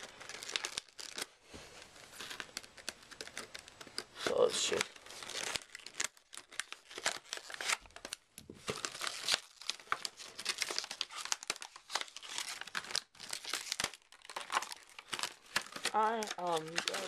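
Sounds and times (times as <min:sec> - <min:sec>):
plastic packaging crackling: 0:00.0 - 0:17.0.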